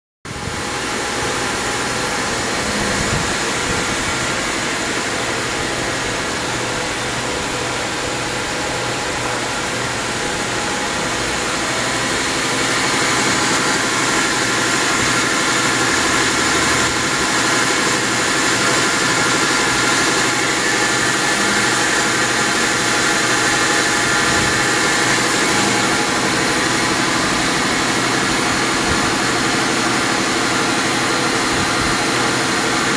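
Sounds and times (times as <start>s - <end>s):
machining center hum and whine: 0.3s - 32.9s.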